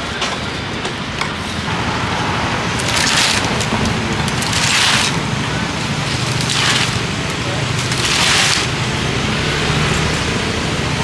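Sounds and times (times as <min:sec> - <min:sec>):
passing vehicles rushing hiss: 0:01.4 - 0:11.0
low engine hum: 0:01.7 - 0:11.0.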